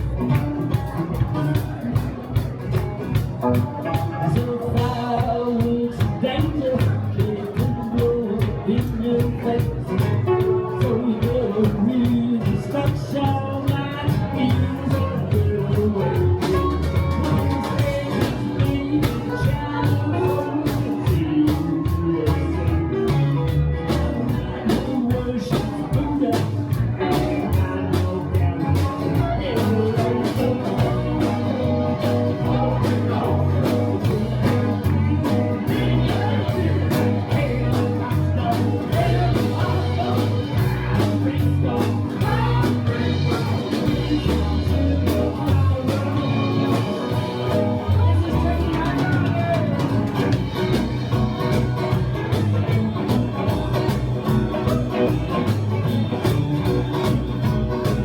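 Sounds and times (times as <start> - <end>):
bass line: 0.0 - 58.0
blues-rock band playing: 0.0 - 58.0.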